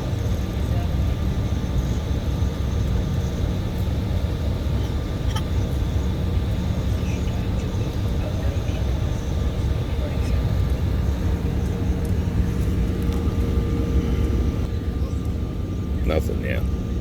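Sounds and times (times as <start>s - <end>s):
airliner cabin rumble: 0.0s - 17.0s
thin steady whine: 0.0s - 17.0s.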